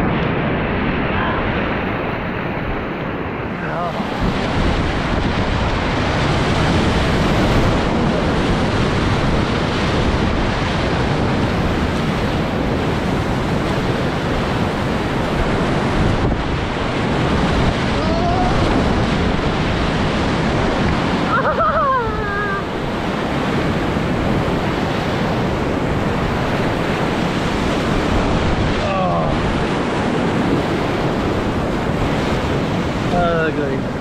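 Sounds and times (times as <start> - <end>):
water churning against boat: 0.0 - 34.0
whitewater rapids rushing: 3.5 - 34.0.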